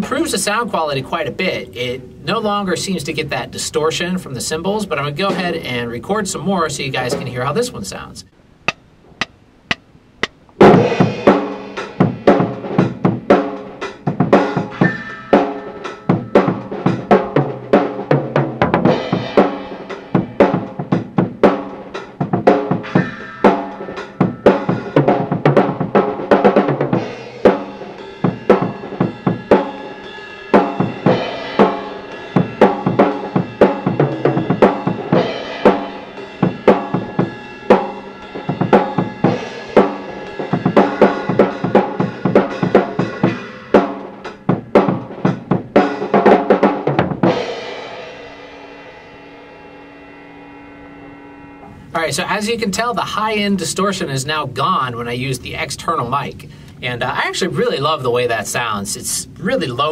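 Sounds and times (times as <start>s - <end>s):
drum kit groove: 4.5s - 50.9s, 51.6s - 59.9s.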